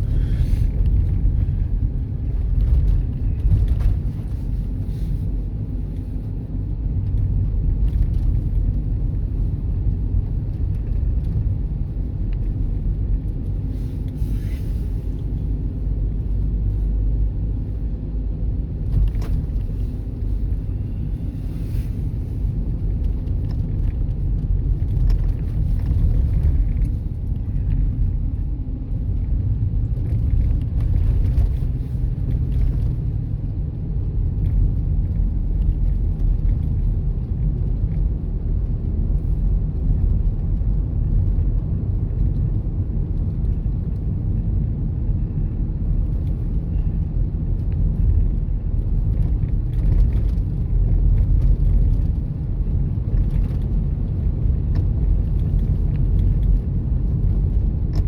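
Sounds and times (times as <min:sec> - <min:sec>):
car cabin engine and tyre noise: 0:00.0 - 0:58.0.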